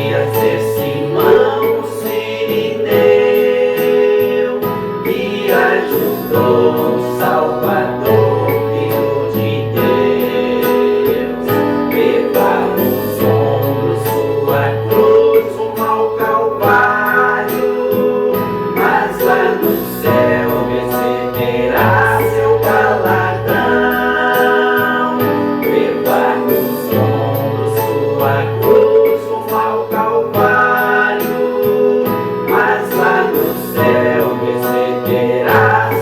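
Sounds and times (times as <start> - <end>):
gospel music with steady beat: 0.0 - 36.0.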